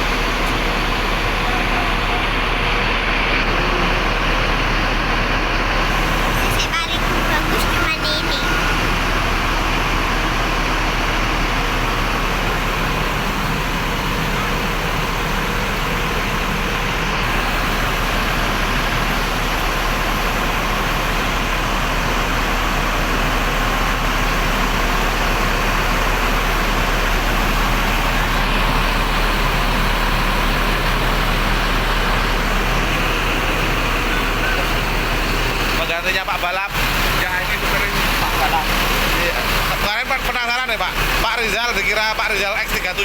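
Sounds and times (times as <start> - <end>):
road vehicle hum: 0.0 - 43.0.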